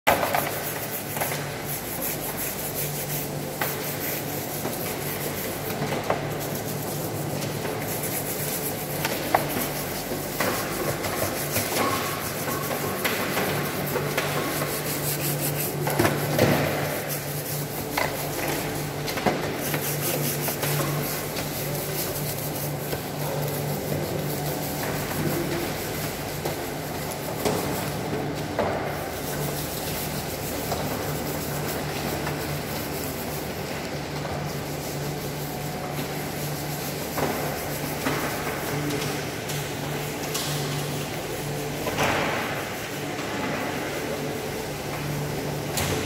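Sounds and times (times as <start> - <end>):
low machinery hum: 0.1 - 46.0.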